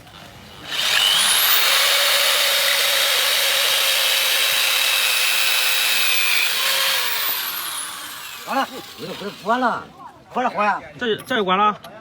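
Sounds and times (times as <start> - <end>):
power grinder grinding metal: 0.0 - 9.8.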